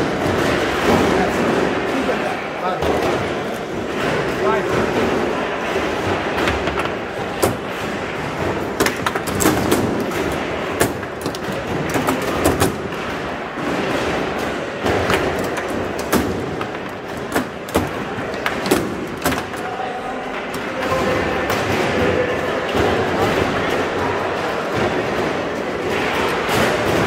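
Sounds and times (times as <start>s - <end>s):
foosball clacks and knocks: 0.0s - 2.2s, 2.8s - 19.8s, 20.4s - 27.0s
din of a busy hall: 0.0s - 27.0s
foosball rods slamming: 0.0s - 27.0s.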